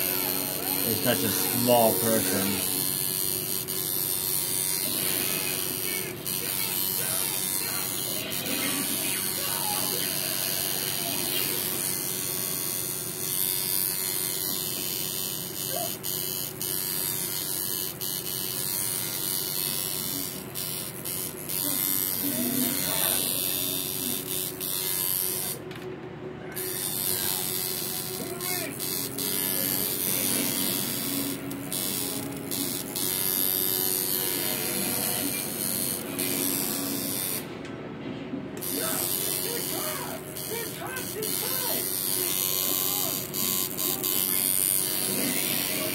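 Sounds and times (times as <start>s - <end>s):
tattoo machine buzzing: 0.0s - 25.8s, 26.5s - 37.6s, 38.6s - 45.9s.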